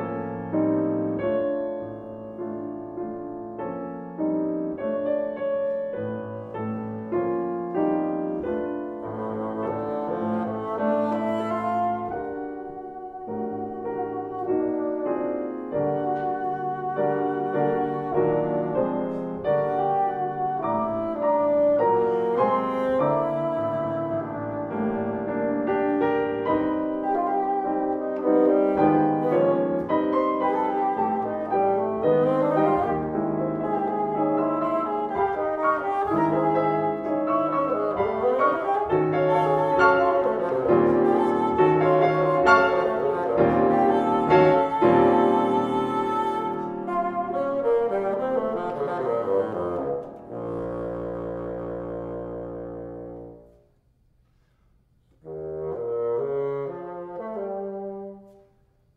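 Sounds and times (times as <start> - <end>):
piano playing: 0.0 - 53.8, 55.2 - 58.4
bassoon long notes: 7.8 - 53.7, 55.2 - 58.4.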